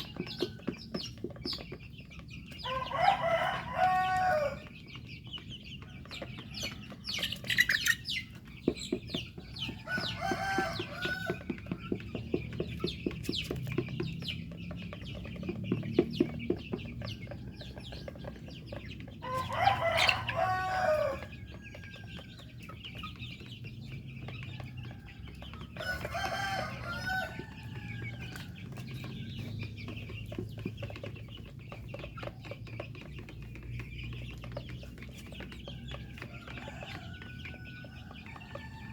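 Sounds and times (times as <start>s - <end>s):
roosters crowing: 0.0s - 1.2s, 2.4s - 5.2s, 5.8s - 38.9s
chickens clucking: 0.0s - 38.9s.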